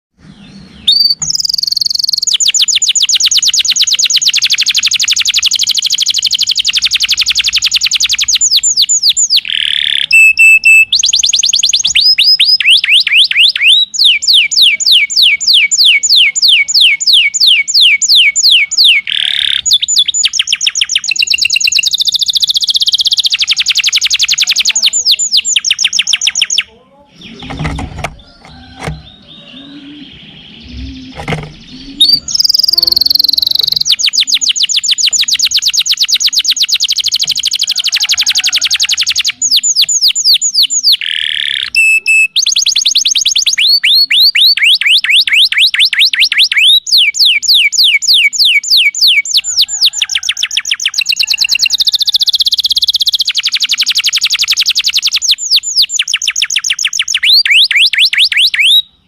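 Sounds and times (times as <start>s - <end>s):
canary singing trills: 0.1s - 59.0s.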